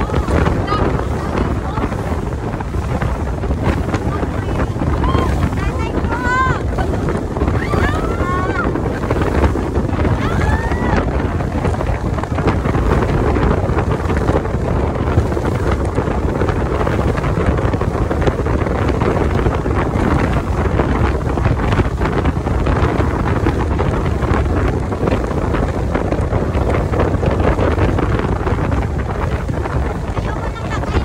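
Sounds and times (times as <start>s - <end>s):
speedboat engine: 0.0s - 31.0s
wind buffeting microphone: 0.0s - 31.0s.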